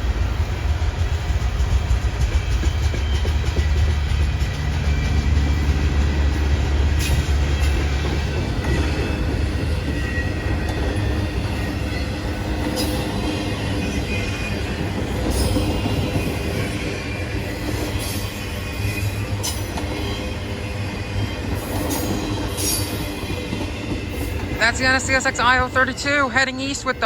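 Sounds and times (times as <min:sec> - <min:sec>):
train wheels rumbling on rails: 0:00.0 - 0:27.0
rail joint clicks: 0:00.7 - 0:25.7.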